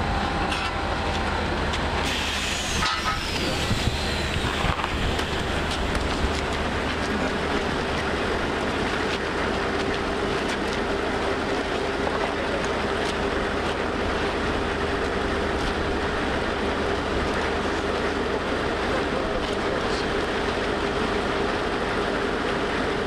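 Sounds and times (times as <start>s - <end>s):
large engine droning: 0.0s - 23.0s.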